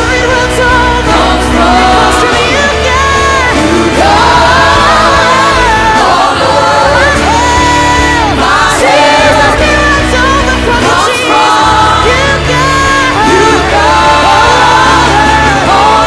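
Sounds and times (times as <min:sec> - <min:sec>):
singers holding long notes: 0:00.0 - 0:16.0
steady bass line: 0:00.0 - 0:16.0
worship band playing: 0:00.0 - 0:16.0.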